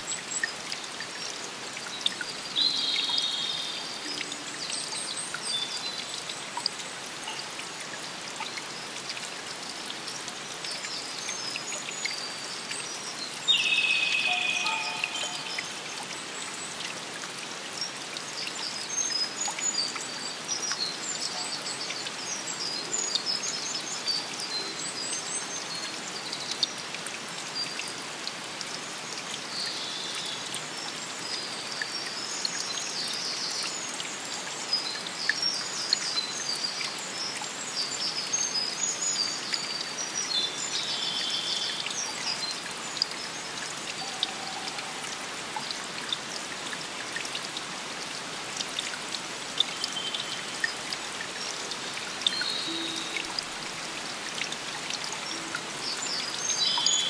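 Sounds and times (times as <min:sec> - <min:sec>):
running water hiss: 0:00.0 - 0:57.0.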